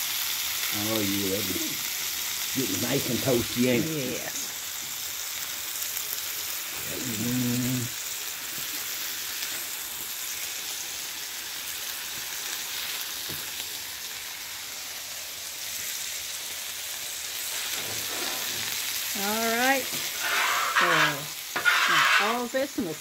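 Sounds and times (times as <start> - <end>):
patties sizzling on a griddle: 0.0 - 23.0.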